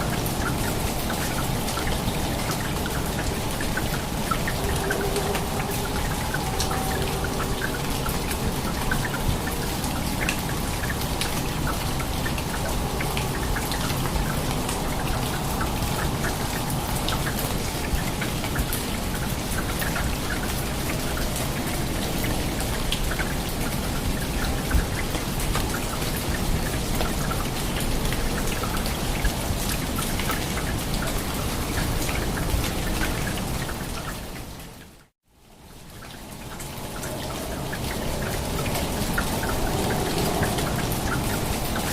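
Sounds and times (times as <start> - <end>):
heavy rain falling: 0.0 - 41.9
raindrops ticking on surfaces: 0.0 - 41.9.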